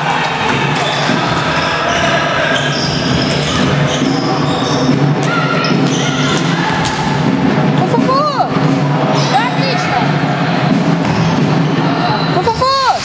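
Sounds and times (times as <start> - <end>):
echoing hubbub in sports hall: 0.0 - 13.0.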